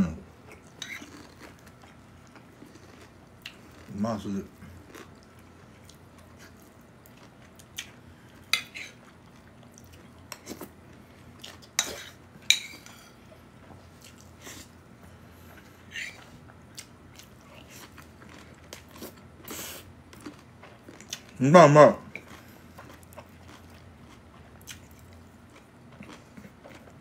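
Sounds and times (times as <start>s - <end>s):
quiet chewing: 0.4s - 21.4s, 22.1s - 27.0s.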